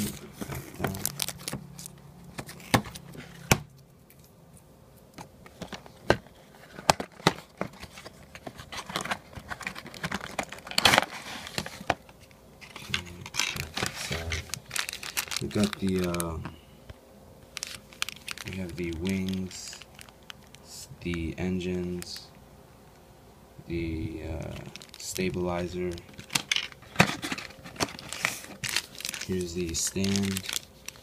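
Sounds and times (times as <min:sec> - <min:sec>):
cardboard and plastic packaging crinkling: 0:00.0 - 0:03.5, 0:05.4 - 0:16.6, 0:17.5 - 0:22.3, 0:24.2 - 0:31.0.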